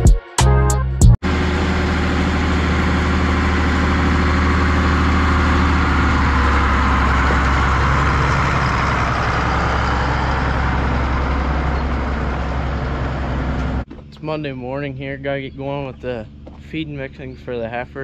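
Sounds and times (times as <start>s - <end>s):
tractor diesel engine humming: 1.2s - 18.0s.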